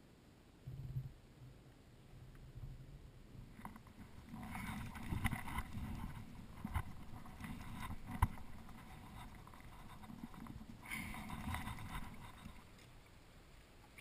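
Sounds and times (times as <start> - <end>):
water lapping against kayak hull: 2.8 - 14.0.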